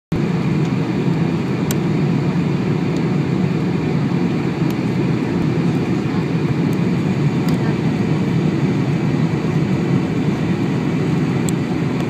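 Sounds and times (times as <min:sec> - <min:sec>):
airplane cabin engine rumble: 0:00.1 - 0:12.0.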